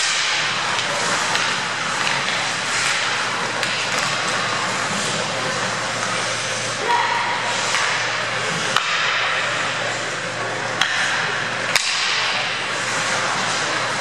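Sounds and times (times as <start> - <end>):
arena noise: 0.0 - 14.0
hockey sticks clacking on puck: 0.0 - 14.0
skates hissing on ice: 0.0 - 14.0.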